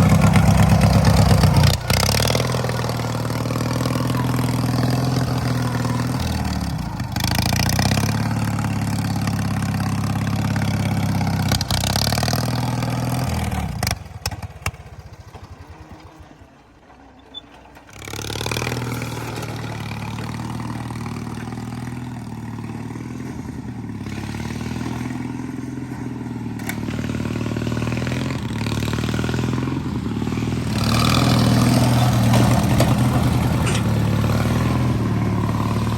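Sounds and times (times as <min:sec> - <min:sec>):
lawnmower engine running: 0:00.0 - 0:35.9.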